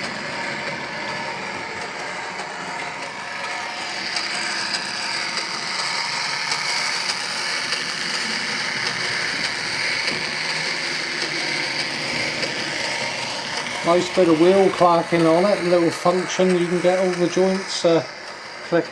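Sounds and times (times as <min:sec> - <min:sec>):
diesel engine sound from small speaker: 0:00.0 - 0:18.9
small rail-joint clicks: 0:00.0 - 0:18.9.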